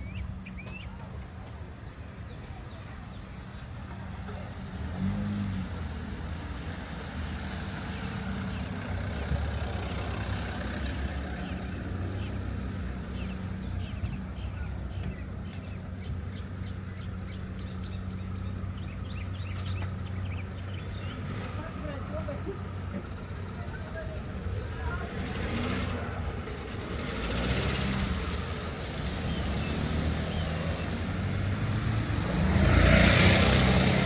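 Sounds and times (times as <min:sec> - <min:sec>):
light street sounds: 0:00.0 - 0:34.0
vehicle engine humming: 0:00.0 - 0:34.0.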